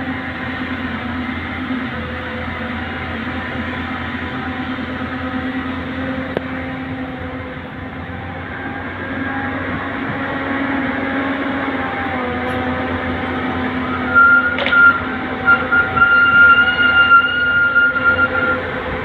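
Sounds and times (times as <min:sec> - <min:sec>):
heavy machinery engine running: 0:00.0 - 0:19.0
high steady whine: 0:00.0 - 0:19.0.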